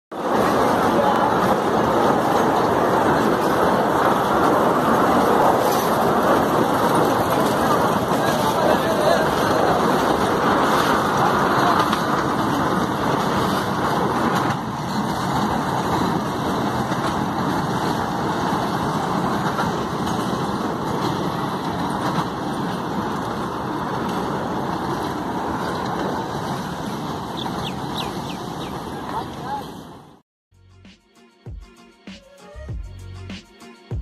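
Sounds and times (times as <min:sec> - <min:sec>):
miniature train rumbling: 0:00.1 - 0:30.2.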